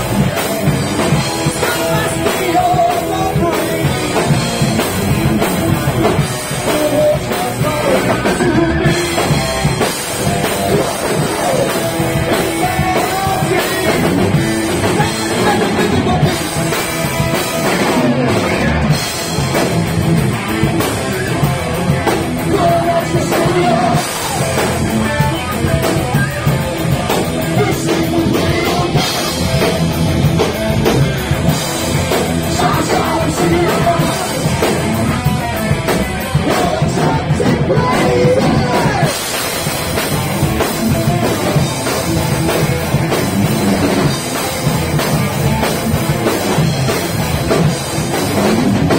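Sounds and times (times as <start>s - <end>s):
electric guitars: 0.0s - 48.9s
heavy metal band playing live: 0.0s - 48.9s
pounding drum kit: 0.0s - 48.9s.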